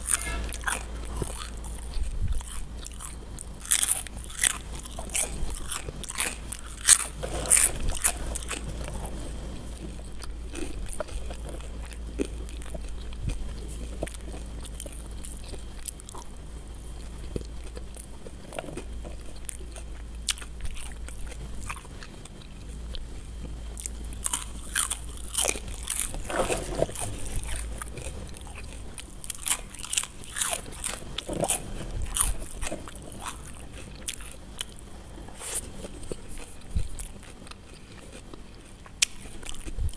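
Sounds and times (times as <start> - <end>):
crunching crispy potato sticks: 0.0 - 39.9.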